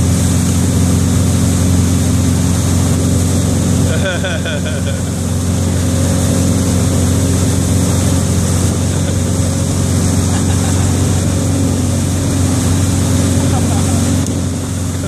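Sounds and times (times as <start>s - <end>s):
churning wake water: 0.0s - 15.0s
motorboat engine running: 0.0s - 15.0s.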